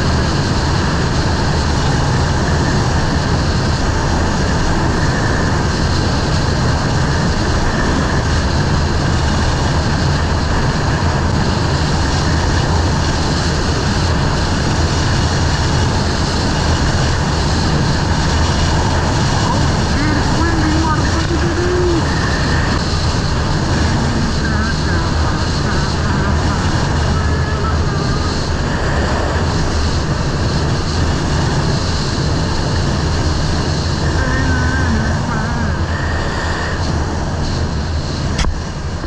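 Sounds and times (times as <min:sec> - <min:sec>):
motorcycle engine running: 0:00.0 - 0:35.7
wind and road noise: 0:00.0 - 0:39.0.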